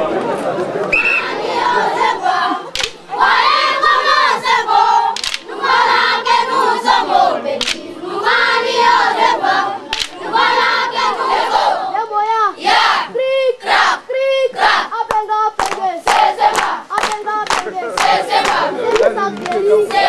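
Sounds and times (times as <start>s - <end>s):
group singing a chant: 1.2s - 20.0s.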